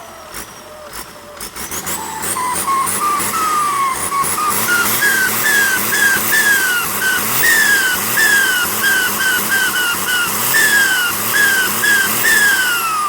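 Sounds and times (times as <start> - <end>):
engine running: 0.0 - 13.0
turbocharger whistling: 0.0 - 13.0.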